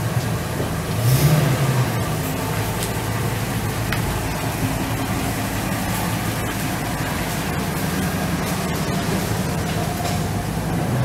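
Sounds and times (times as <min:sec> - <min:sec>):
truck engine idling: 0:00.0 - 0:11.0
steady hiss: 0:01.9 - 0:10.8.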